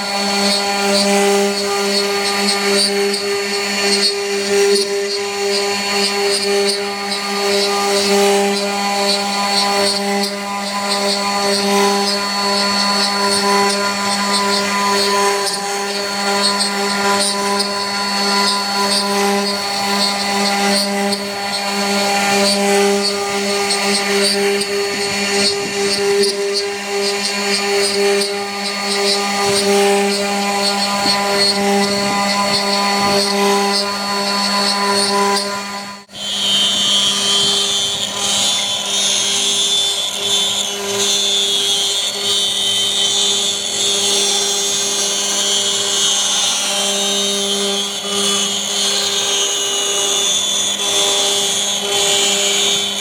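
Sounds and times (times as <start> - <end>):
router spindle whining: 0.0 - 53.0
scratchy crackle of wood cutting: 0.0 - 53.0.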